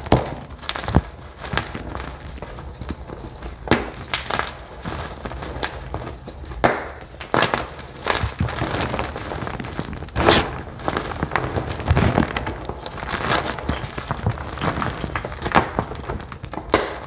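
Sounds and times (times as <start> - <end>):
dye blocks crunching: 0.0 - 17.0
soft crumbling: 0.0 - 17.0.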